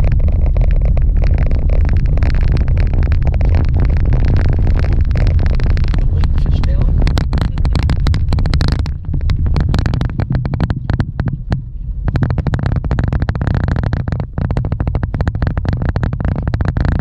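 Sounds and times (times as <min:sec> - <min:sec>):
gravel clicking and rattling: 0:00.0 - 0:17.0
vehicle cabin rumble: 0:00.0 - 0:17.0.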